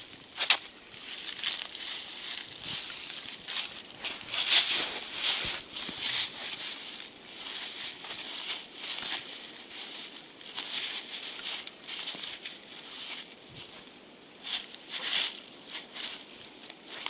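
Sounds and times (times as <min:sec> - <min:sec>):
boots crunching through dry leaves: 0:00.0 - 0:17.0.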